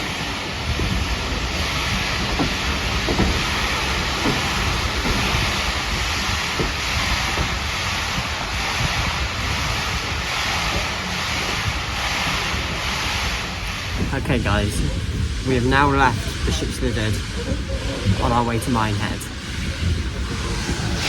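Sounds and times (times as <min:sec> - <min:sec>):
train rushing noise: 0:00.0 - 0:21.0
wind on microphone: 0:00.0 - 0:21.0.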